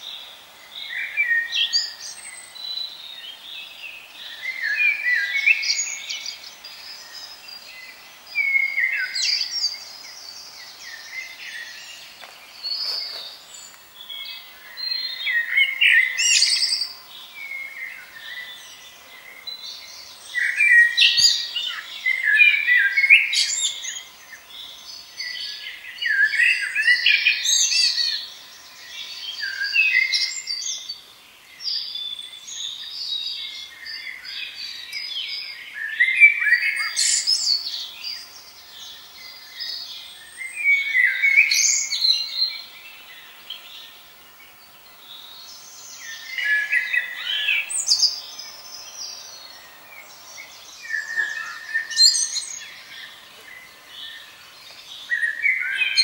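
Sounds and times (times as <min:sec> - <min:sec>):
songbirds whistling song: 0:00.0 - 0:56.0
bird chirps and calls: 0:00.8 - 0:31.0, 0:31.7 - 0:56.0.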